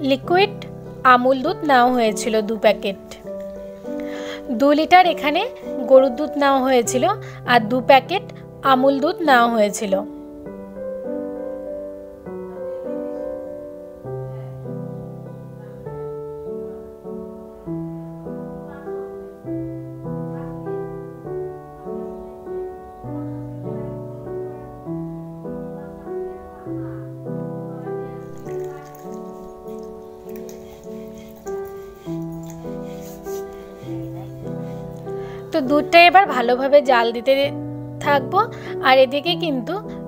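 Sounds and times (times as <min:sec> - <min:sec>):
gentle piano tune: 0:00.0 - 0:40.0.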